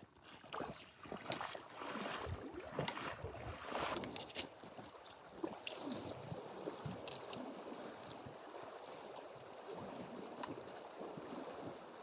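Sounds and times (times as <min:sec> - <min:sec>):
feet wading through water: 0:00.1 - 0:12.0
water splashes: 0:00.2 - 0:12.0.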